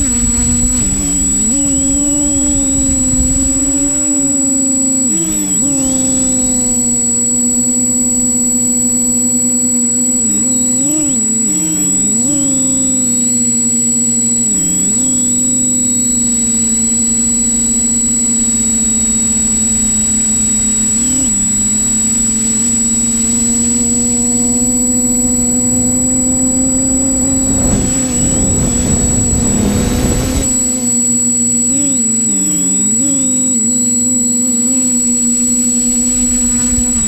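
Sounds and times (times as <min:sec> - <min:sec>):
quadcopter propellers humming: 0:00.0 - 0:37.0.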